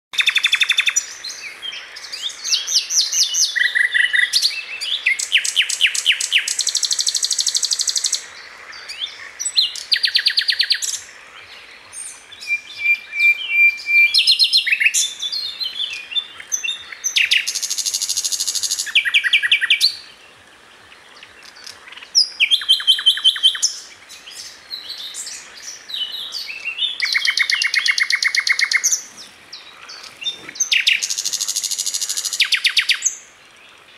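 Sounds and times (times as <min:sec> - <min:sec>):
songbird trilling and chirping: 0:00.2 - 0:20.1, 0:21.1 - 0:33.3.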